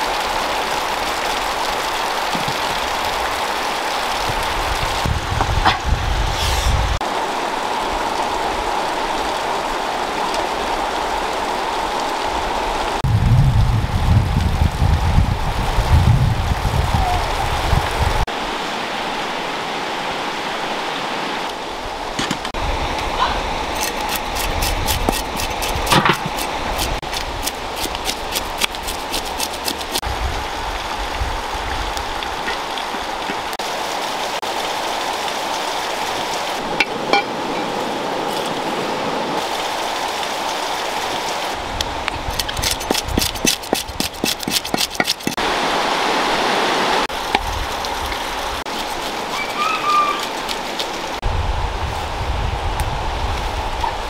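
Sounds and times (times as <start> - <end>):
river rushing over stones: 0.0 - 13.0, 17.0 - 51.3.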